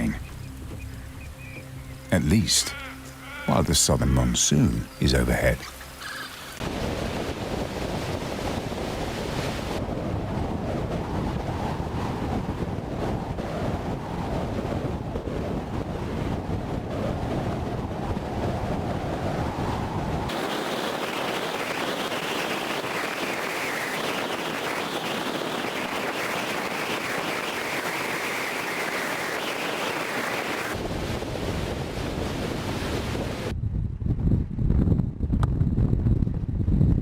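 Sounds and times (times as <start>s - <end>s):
steady rushing noise: 0.0s - 33.7s.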